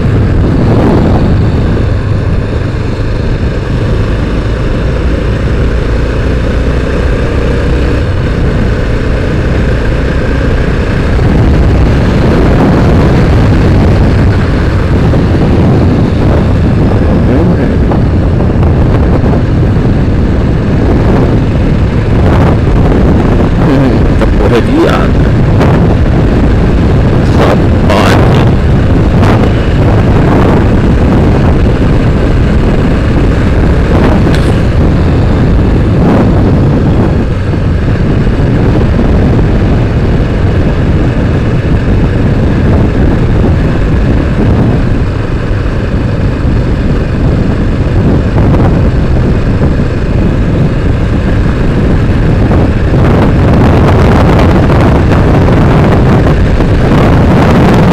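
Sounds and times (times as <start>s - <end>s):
motorcycle engine running: 0.0s - 57.9s
wind rush on microphone: 0.0s - 57.9s.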